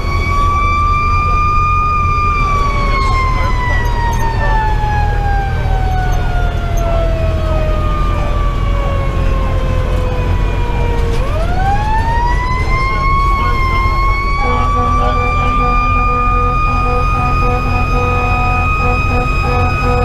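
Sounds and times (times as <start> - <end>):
diesel engine rumble: 0.0 - 20.0
mechanical siren wailing: 0.0 - 20.0.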